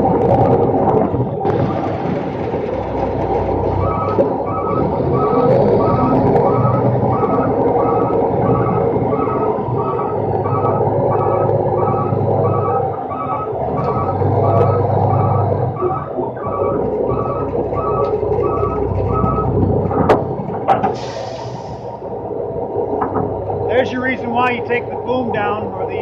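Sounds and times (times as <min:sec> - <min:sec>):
diesel engine running: 0:00.0 - 0:26.0
truck backup alarm beeping: 0:00.0 - 0:26.0.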